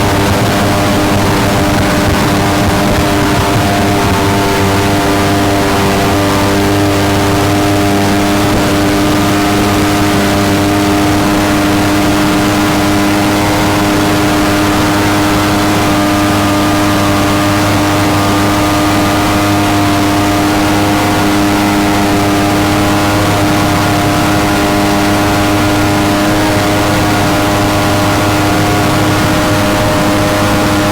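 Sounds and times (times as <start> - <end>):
jet boat engine running: 0.0 - 30.9
rushing air and water: 0.0 - 30.9.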